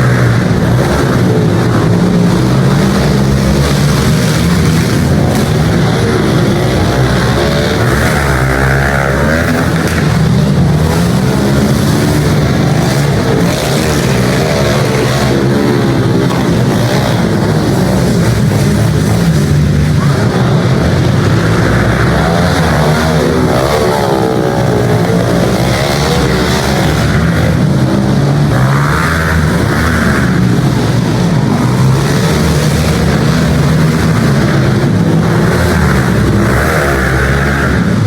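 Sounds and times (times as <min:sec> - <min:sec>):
pit bike engines revving: 0:00.0 - 0:38.0.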